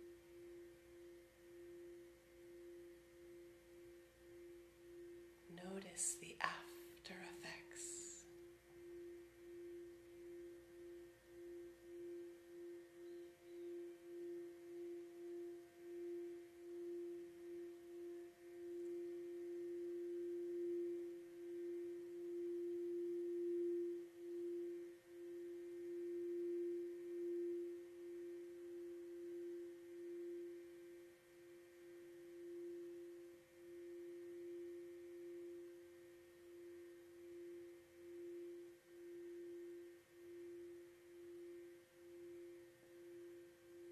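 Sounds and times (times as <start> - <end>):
sustained wavering pure tone: 0.0 - 43.9.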